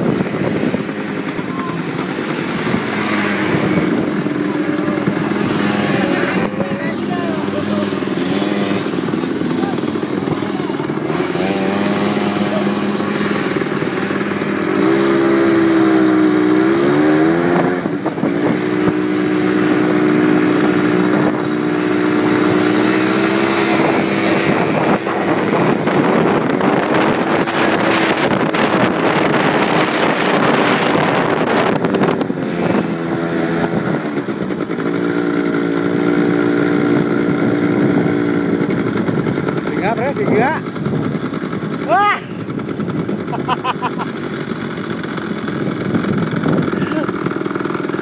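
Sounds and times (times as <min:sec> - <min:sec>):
quad engines running: 0:00.0 - 0:48.0.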